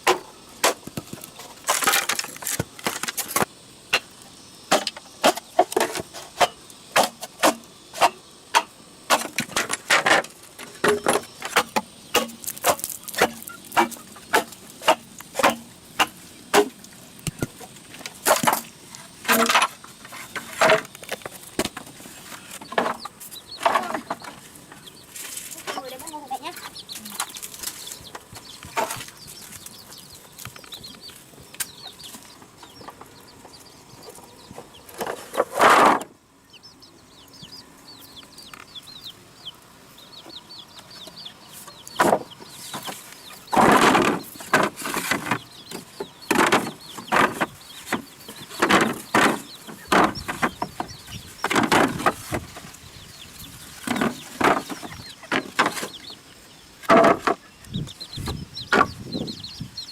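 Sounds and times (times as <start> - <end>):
chickens clucking and chirping: 0.0 - 59.9.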